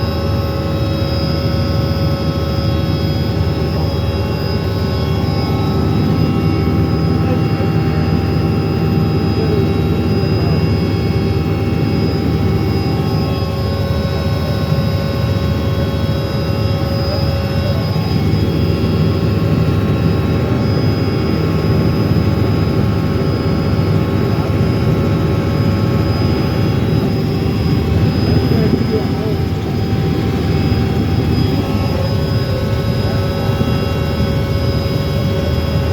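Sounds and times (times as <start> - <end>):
held whining tones: 0.0 - 35.9
helicopter engine and rotor drone: 0.0 - 35.9.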